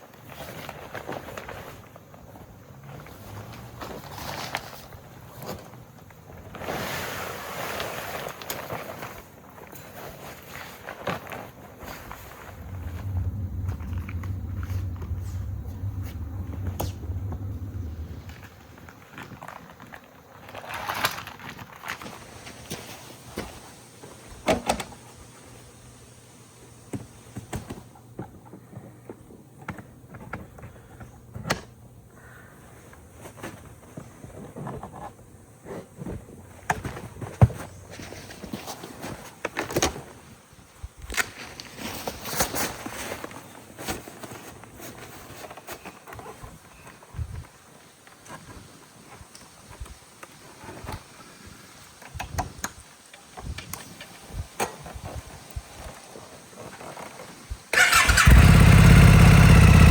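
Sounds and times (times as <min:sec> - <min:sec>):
faint steady background noise: 0:00.0 - 0:59.9.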